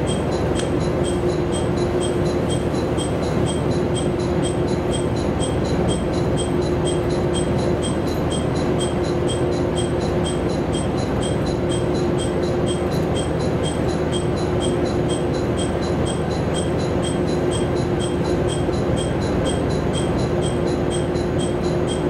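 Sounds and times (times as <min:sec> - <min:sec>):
diesel railcar engine idling: 0:00.0 - 0:22.0
faint regular ticking: 0:00.0 - 0:22.0.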